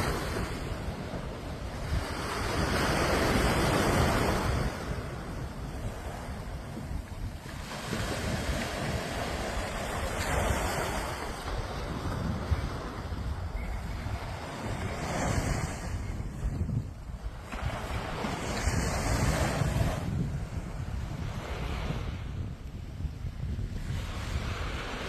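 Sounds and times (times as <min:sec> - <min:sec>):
sea waves breaking ashore: 0:00.0 - 0:22.5.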